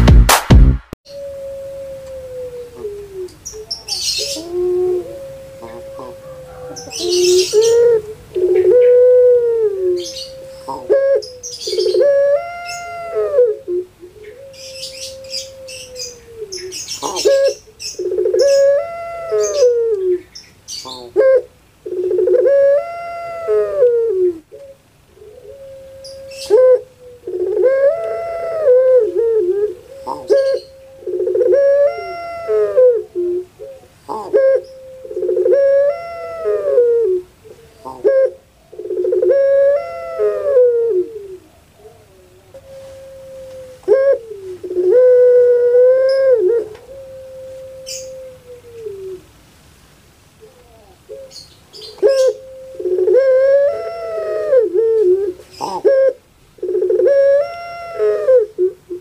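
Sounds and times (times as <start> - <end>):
dove cooing: 1.1 - 49.4, 50.4 - 59.0.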